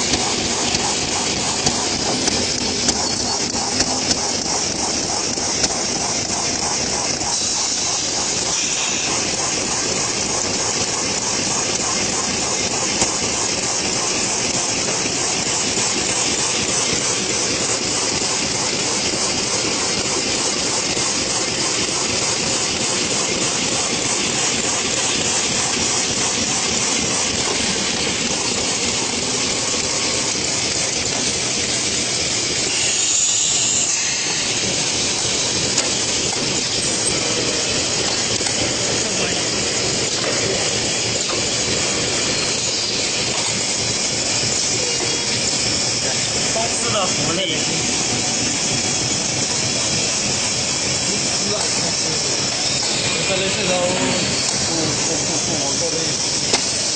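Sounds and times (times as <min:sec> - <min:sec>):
cutting machine running with hiss: 0:00.0 - 0:56.9.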